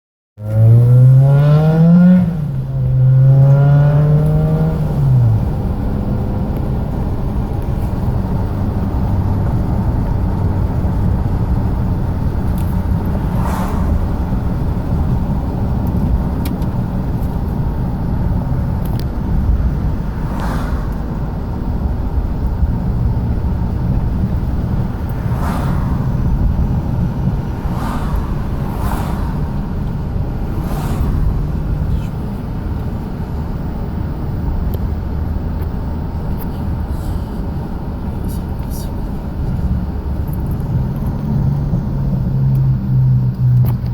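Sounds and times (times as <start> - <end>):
car engine accelerating hard: 0.4 - 43.9
traffic rumble: 0.4 - 43.9
vehicles passing: 0.4 - 43.9.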